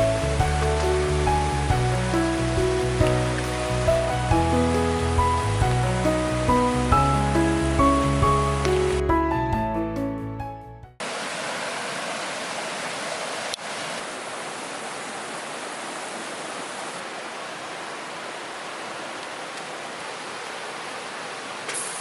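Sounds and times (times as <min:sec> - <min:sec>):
heavy rain falling: 0:00.0 - 0:09.1, 0:11.0 - 0:22.0.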